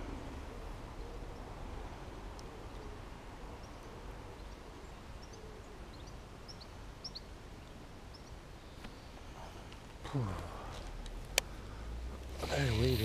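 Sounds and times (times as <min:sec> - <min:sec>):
low outdoor background noise: 0:00.0 - 0:13.0
small birds chirping: 0:02.3 - 0:13.0.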